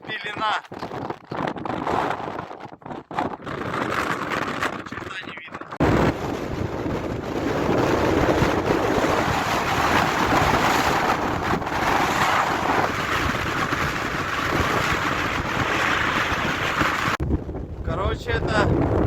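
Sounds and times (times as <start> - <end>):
strong wind rushing: 0.0 - 19.0.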